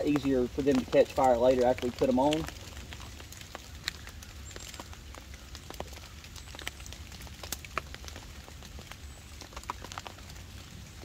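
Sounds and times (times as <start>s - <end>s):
raindrops on canvas tarp: 0.0s - 11.0s.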